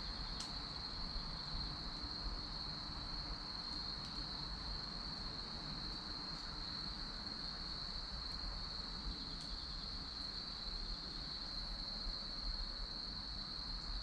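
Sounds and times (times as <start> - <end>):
bonfire crackling: 0.0 - 11.3
crickets trilling: 0.0 - 14.0.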